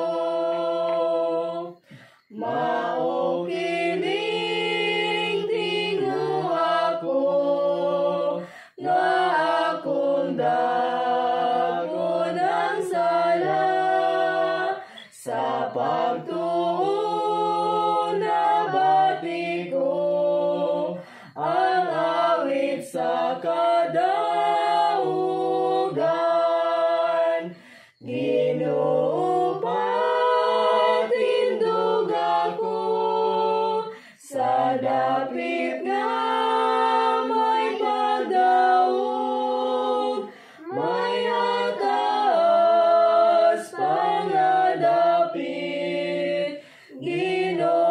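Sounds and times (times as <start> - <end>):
children and woman singing a hymn: 0.0 - 47.9.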